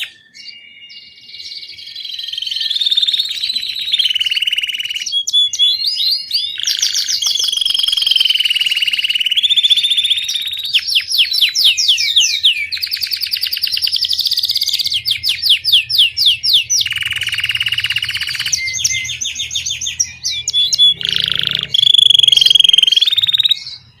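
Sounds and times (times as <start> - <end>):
canary singing trills and whistles: 0.0 - 24.0.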